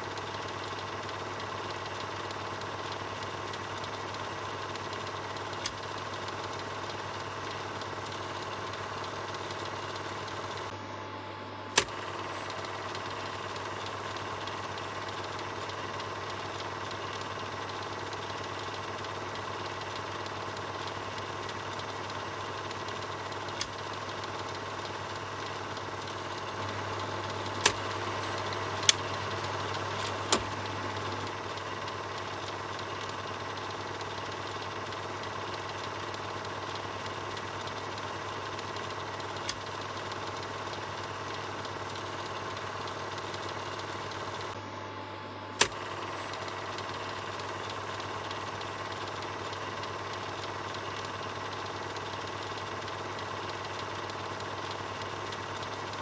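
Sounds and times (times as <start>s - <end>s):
film projector whirring: 0.0s - 56.0s
sharp clicks: 0.1s - 10.7s, 11.7s - 44.6s, 45.6s - 56.0s.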